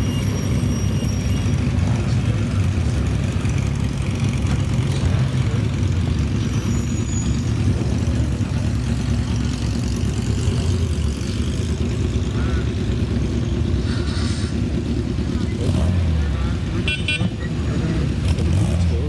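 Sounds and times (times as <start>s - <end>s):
racing car engine idling: 0.0s - 19.0s.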